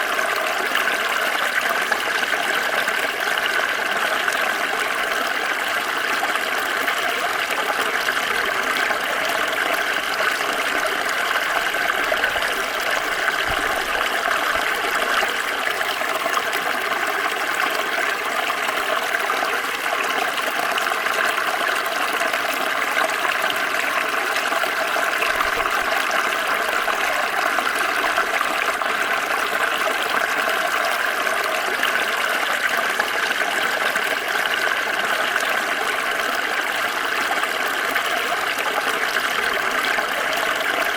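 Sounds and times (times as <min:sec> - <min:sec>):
stream water flowing and splashing: 0:00.0 - 0:40.9.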